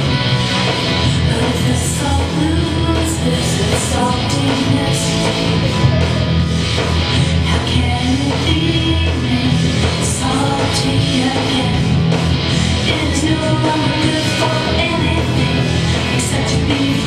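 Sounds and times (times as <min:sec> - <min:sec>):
upbeat rock song with singing: 0:00.0 - 0:17.0.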